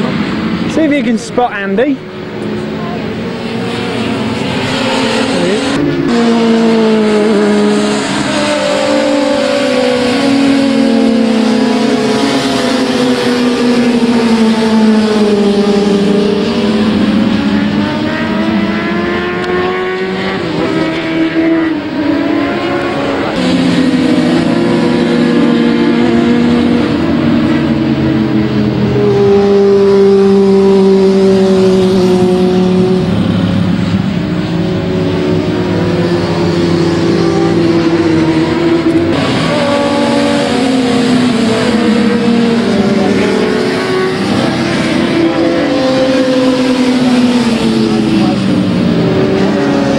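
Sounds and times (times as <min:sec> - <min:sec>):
racing motorcycle engines revving: 0:00.0 - 0:49.9.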